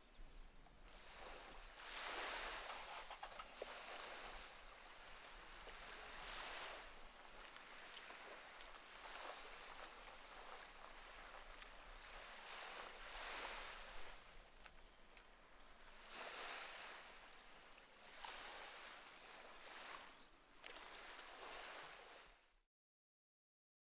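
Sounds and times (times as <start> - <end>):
small waves lapping on beach: 0.0 - 22.5.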